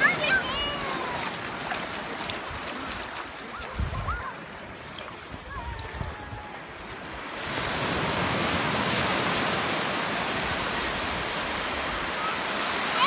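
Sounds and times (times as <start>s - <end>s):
small waves breaking: 0.0s - 13.0s
surf washing through shallows: 0.0s - 13.0s.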